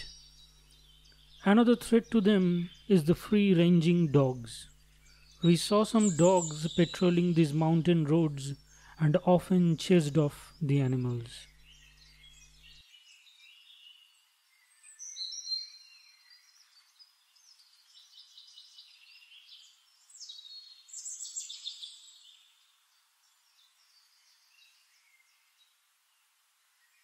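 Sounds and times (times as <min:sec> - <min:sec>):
small birds chirping and trilling: 0:00.0 - 0:27.0.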